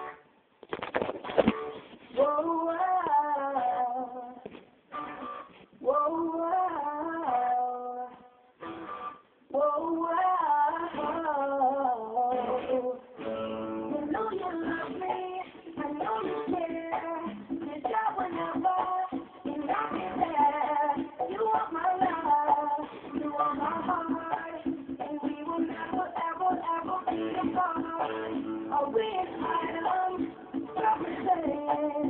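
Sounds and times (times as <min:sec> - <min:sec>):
male singer with high voice: 0:02.1 - 0:04.5, 0:05.8 - 0:08.5, 0:09.5 - 0:13.2, 0:13.9 - 0:32.0.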